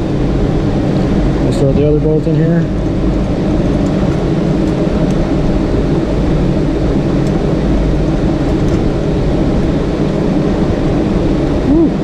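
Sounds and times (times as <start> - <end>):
loud low rumbling: 0.0 - 12.0.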